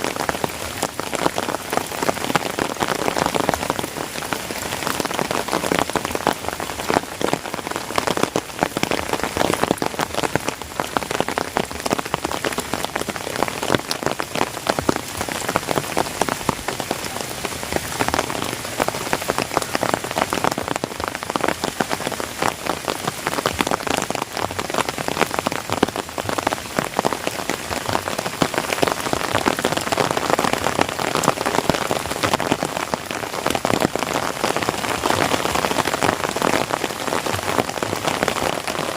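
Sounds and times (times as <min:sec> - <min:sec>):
heavy rain on leaves: 0:00.0 - 0:38.9.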